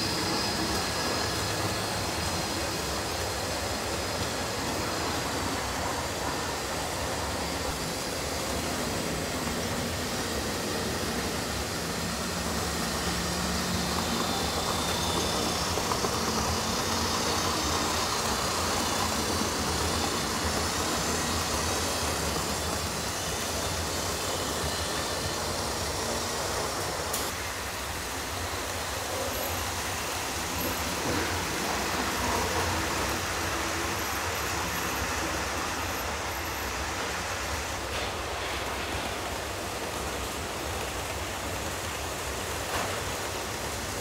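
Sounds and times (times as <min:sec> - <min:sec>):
model trains rumbling on track: 0:00.0 - 0:44.0.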